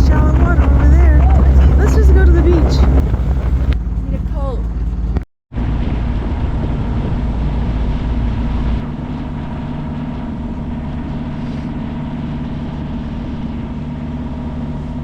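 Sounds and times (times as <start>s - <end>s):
boat motor running: 0.0s - 15.0s
water noise: 0.0s - 15.0s
wind: 0.0s - 15.0s.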